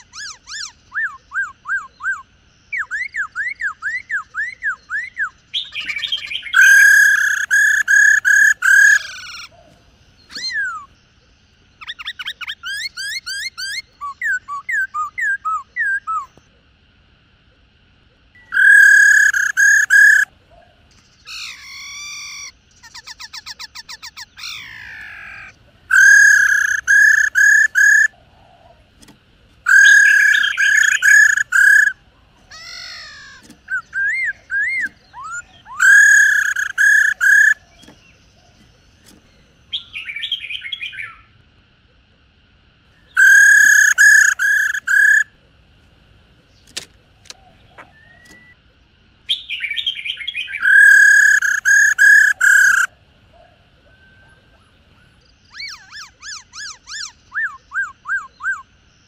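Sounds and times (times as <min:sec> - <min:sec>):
fast rattling bird trill: 0:00.0 - 0:16.4, 0:18.3 - 0:41.2, 0:42.9 - 0:45.4, 0:49.3 - 0:52.9, 0:54.2 - 0:58.8
laughingthrushes calling: 0:00.0 - 0:41.5, 0:42.8 - 0:59.0.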